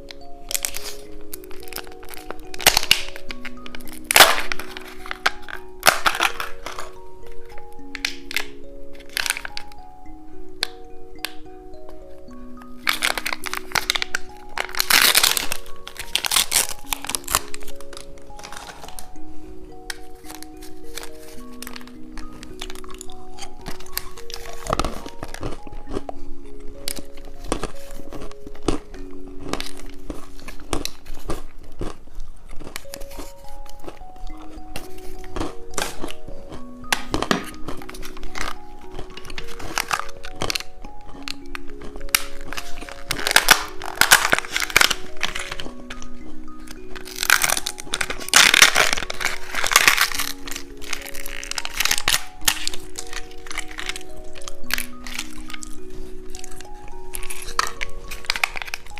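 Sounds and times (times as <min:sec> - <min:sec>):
candy wrapper crinkling: 0:00.0 - 0:58.9
soft background music: 0:00.0 - 0:58.9.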